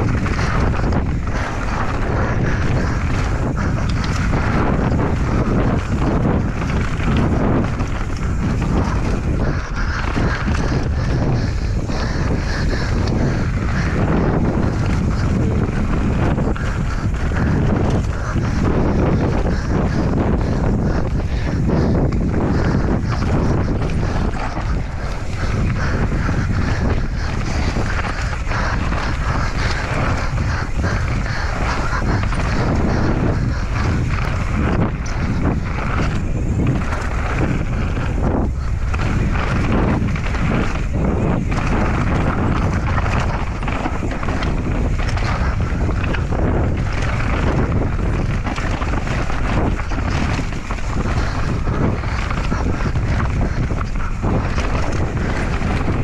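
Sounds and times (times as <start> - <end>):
bike knocks and rattles: 0.0 - 56.0
tyres rumbling on dirt: 0.0 - 56.0
wind on microphone: 0.0 - 56.0.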